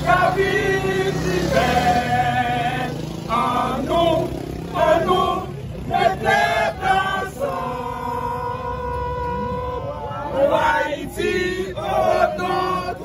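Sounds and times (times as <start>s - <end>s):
group of men singing: 0.0s - 9.3s, 10.1s - 13.0s.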